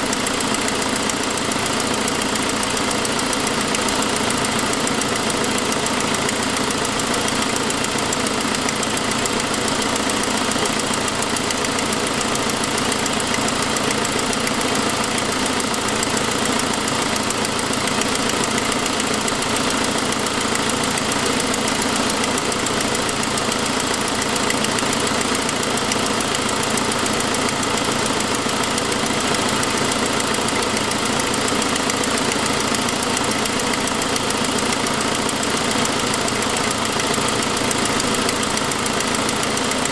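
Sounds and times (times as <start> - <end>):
car engine running: 0.0 - 39.9
exhaust leak ticking: 0.0 - 39.9.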